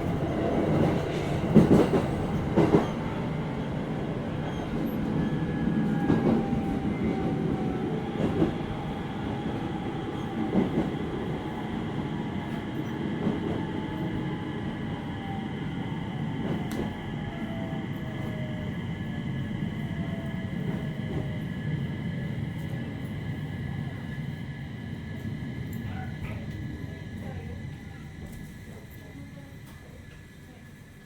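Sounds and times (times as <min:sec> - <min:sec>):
train rumble with motor whine: 0:00.0 - 0:31.0.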